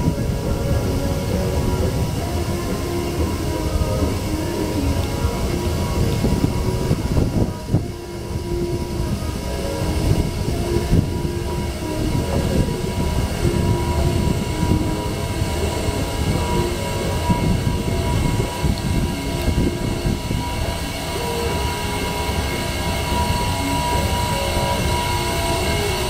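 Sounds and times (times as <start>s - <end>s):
escalator mechanical rumble: 0.0s - 26.0s
thin steady tone: 0.0s - 26.0s.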